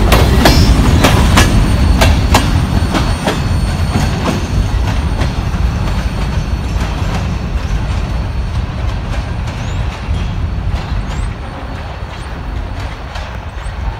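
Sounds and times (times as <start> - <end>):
clacks at rail joints: 0.0 - 13.9
train wheels rumbling on rail: 0.0 - 13.9.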